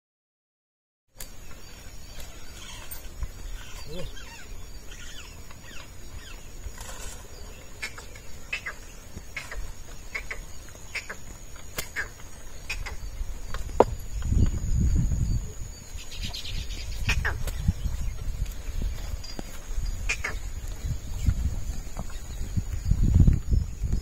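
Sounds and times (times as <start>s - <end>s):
birds chirping: 1.2s - 24.0s
high-pitched insect drone: 1.4s - 21.6s.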